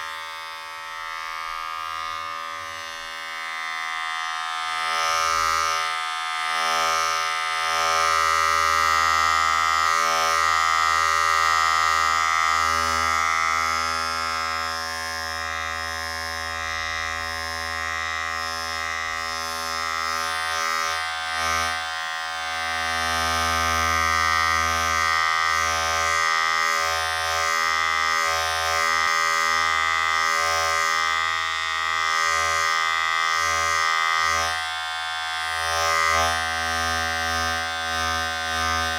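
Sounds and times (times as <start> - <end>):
electric razor buzzing: 0.0 - 38.9.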